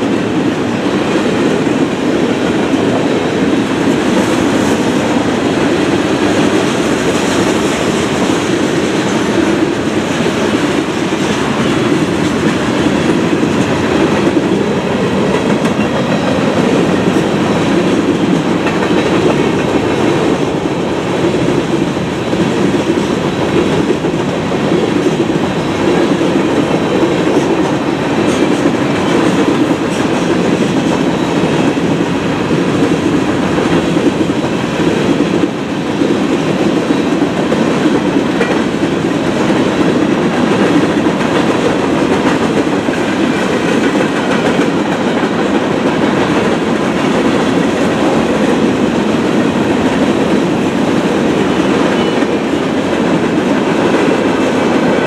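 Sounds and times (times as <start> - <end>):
clickety-clack of rails: 0.0 - 55.0
train wheels rumbling on rails: 0.0 - 55.0.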